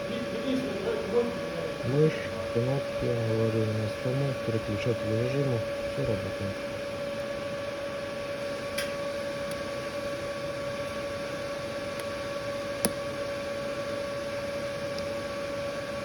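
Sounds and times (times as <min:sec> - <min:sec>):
electrical machine hum: 0:00.0 - 0:16.0.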